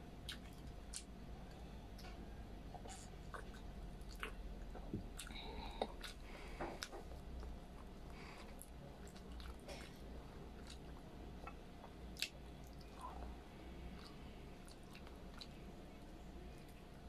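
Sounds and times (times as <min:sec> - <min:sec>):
person chewing and smacking: 0:00.2 - 0:16.9.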